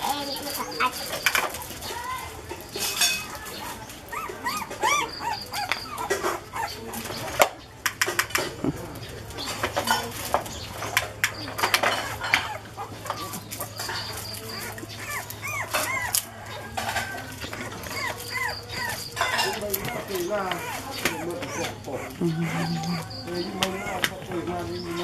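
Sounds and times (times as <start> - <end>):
puppies whimpering and squeaking: 0.0 - 25.0.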